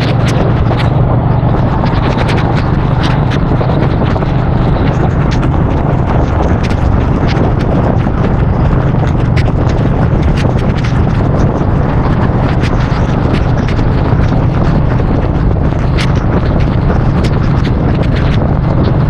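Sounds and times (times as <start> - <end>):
motorcycle engine running: 0.0 - 19.0
rain ticking on camera: 0.0 - 19.0
wind rushing over microphone: 0.0 - 19.0.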